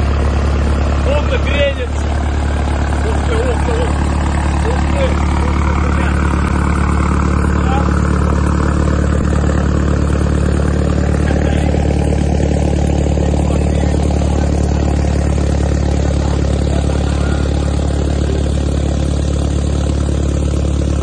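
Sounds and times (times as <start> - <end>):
truck engine droning: 0.0 - 21.0.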